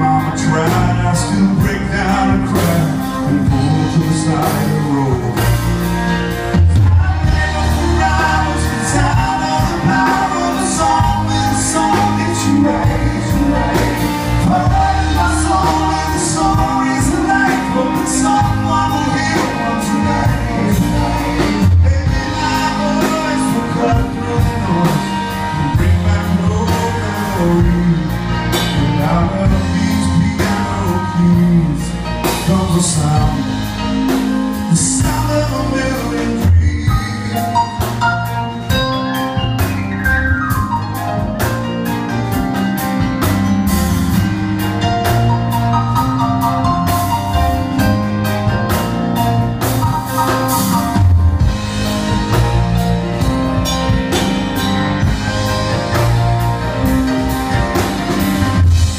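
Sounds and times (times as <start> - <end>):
bass: 0.0 - 58.9
drums: 0.0 - 58.9
piano: 0.0 - 58.9.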